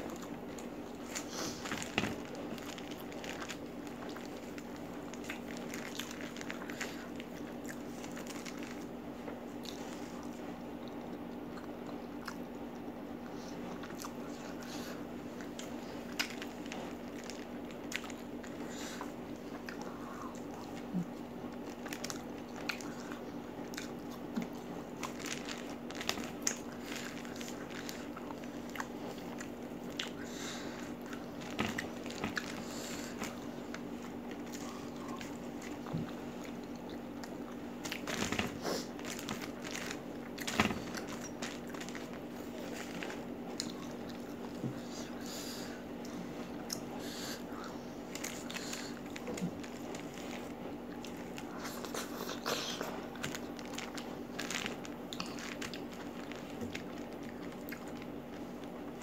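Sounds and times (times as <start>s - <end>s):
crisp chewing crunches: 0.0s - 59.0s
steady low hum: 0.0s - 59.0s.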